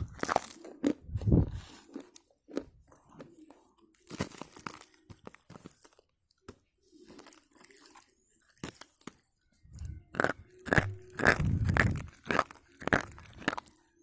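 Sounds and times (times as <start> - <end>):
chewing crunches: 0.0 - 14.0.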